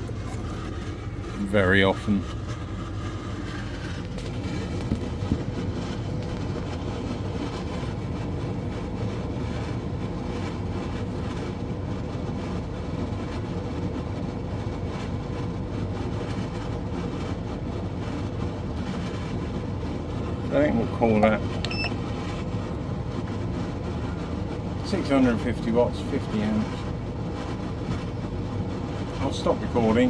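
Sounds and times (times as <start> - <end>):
air conditioner humming: 0.0 - 30.0
fan blowing air: 0.0 - 30.0.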